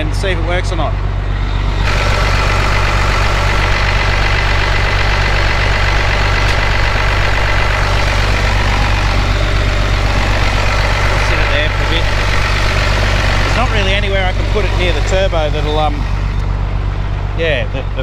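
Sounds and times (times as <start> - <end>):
diesel engine running: 0.0 - 18.0
turbo whine: 0.0 - 18.0.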